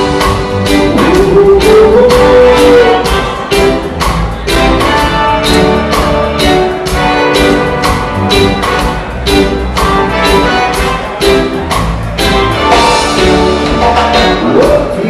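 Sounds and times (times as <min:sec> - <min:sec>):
live reggae band playing: 0:00.0 - 0:15.0.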